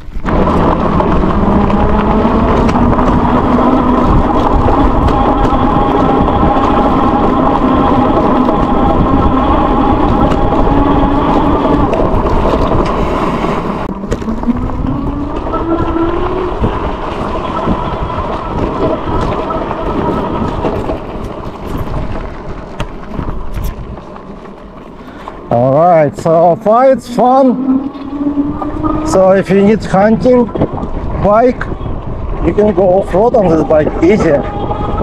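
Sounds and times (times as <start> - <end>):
electric motor whining: 0.0 - 35.0
low rumble: 0.0 - 35.0.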